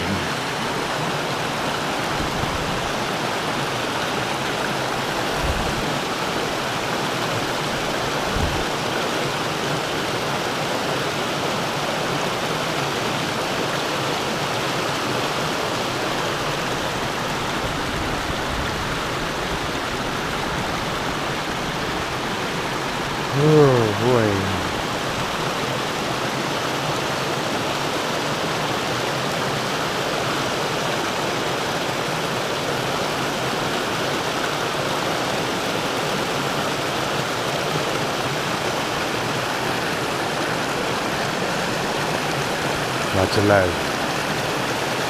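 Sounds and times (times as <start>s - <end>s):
river rushing over rock: 0.0s - 45.0s.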